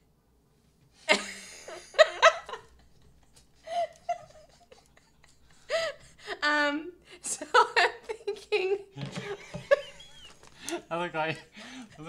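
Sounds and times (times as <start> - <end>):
man and woman laughing: 1.1 - 6.6, 7.2 - 12.0.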